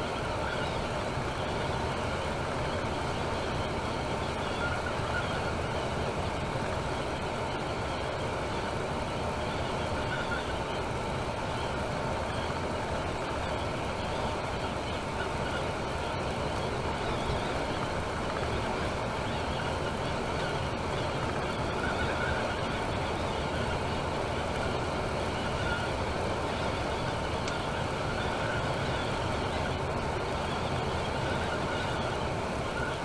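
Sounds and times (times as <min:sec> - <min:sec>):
coach road and engine noise: 0:00.0 - 0:33.0.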